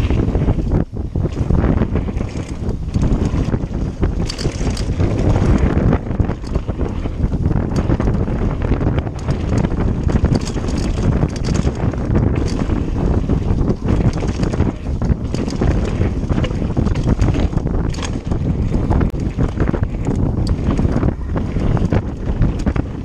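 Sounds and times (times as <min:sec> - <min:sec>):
bike clicks and rattles: 0:00.0 - 0:23.0
wind buffeting microphone: 0:00.0 - 0:23.0
tyres rumbling on dirt: 0:02.2 - 0:22.9.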